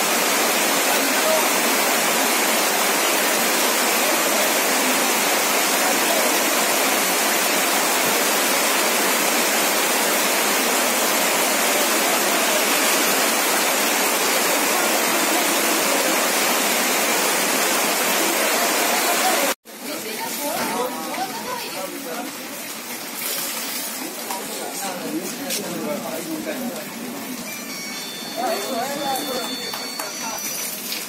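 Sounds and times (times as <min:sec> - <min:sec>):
rain falling on water: 0:00.0 - 0:31.0.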